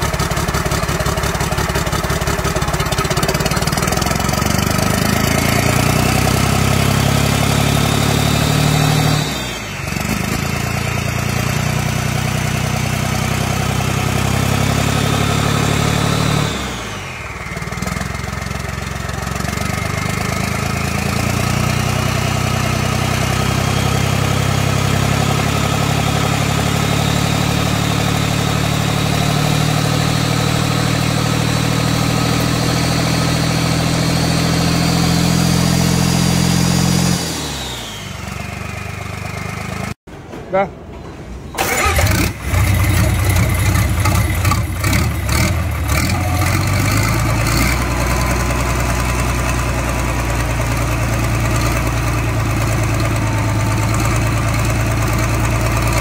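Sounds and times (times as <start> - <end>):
diesel engine running: 0.0 - 40.0, 41.6 - 56.0.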